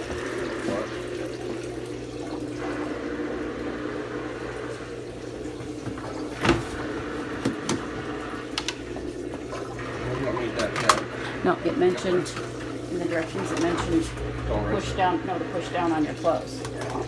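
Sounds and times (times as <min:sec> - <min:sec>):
water pouring into toilet bowl: 0:00.0 - 0:14.6
drain pump humming: 0:00.0 - 0:17.0.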